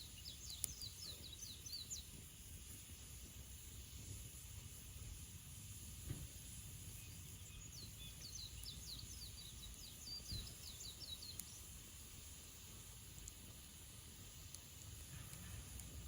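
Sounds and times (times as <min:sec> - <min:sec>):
songbird singing: 0:00.0 - 0:13.3
low outdoor rumble: 0:00.2 - 0:16.0.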